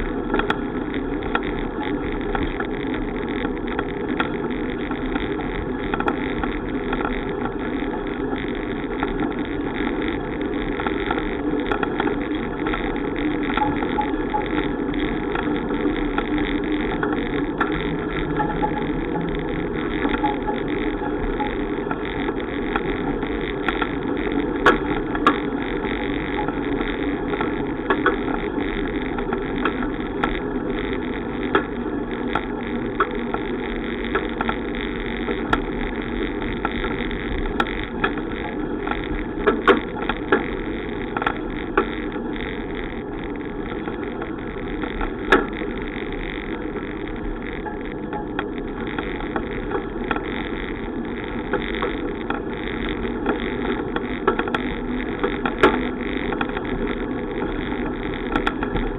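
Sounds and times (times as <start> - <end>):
sharp clicks and knocks: 0.0 - 58.9.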